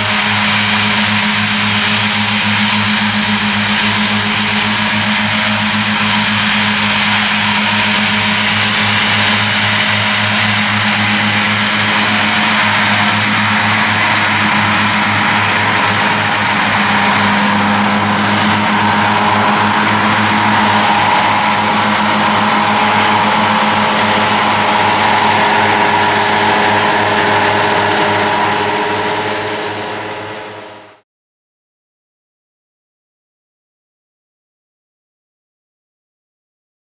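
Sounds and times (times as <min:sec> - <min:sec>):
machine whine: 0:00.0 - 0:31.0
mower engine and spinning blades: 0:00.0 - 0:31.0.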